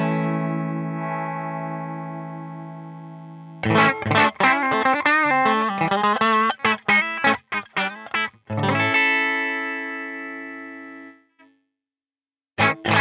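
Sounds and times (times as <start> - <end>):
overdriven electric guitar: 0.0 - 11.6, 12.6 - 13.0.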